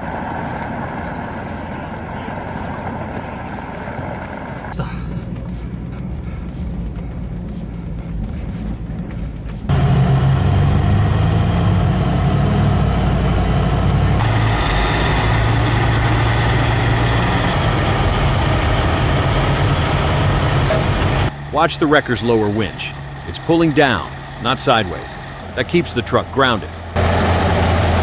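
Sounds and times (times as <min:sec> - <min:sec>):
heavy truck engine drone: 0:00.0 - 0:28.0.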